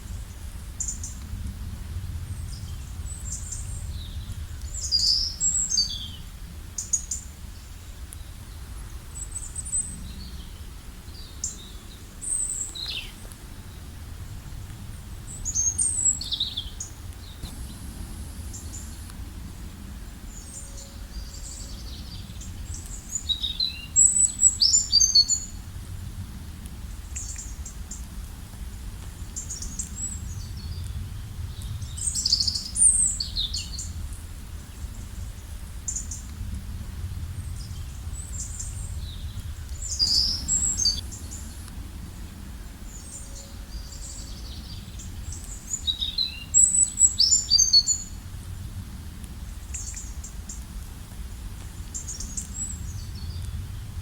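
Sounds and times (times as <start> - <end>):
songbirds singing: 2.0 - 25.8, 26.6 - 28.2, 28.8 - 36.4, 37.0 - 48.2, 49.5 - 50.8, 51.7 - 54.0.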